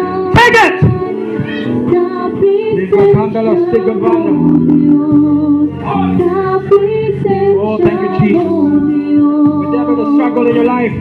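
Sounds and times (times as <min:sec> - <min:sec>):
held instrumental chords: 0:00.0 - 0:11.0
many voices singing: 0:00.0 - 0:11.0.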